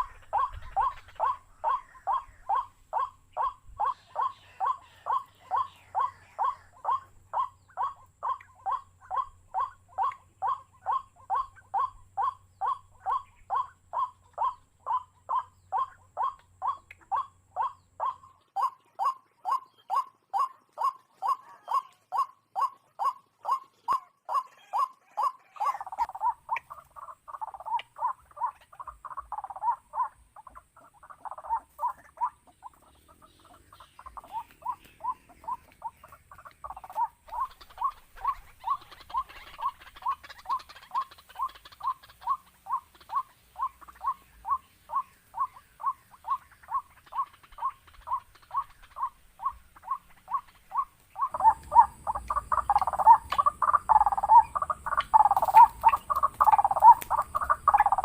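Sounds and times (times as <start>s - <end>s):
bird calling: 0.0s - 58.0s.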